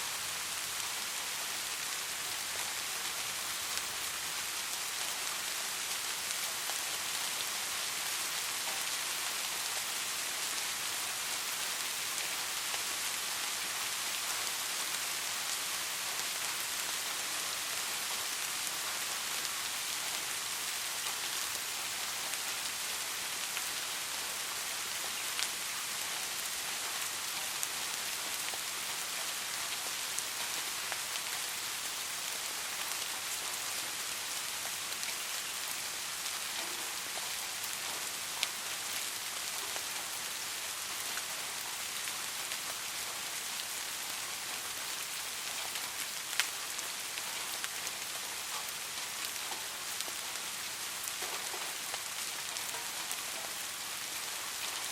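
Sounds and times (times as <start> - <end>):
soft rain falling: 0.0 - 54.9.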